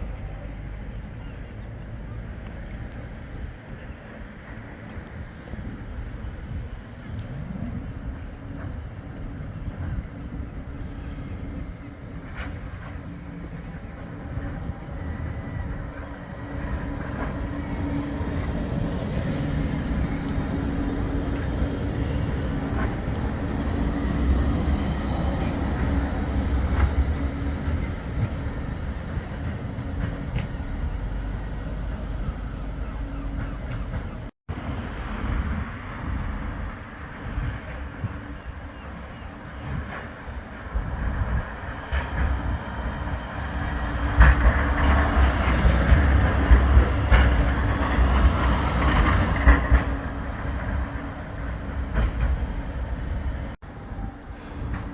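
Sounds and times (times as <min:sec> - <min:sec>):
tram rumbling past: 0:00.0 - 0:54.9.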